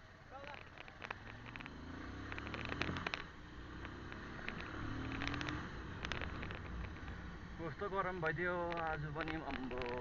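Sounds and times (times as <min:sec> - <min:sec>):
motorcycle engine hum: 0:00.0 - 0:10.0
clicks and rattles: 0:00.4 - 0:07.2, 0:08.6 - 0:10.0.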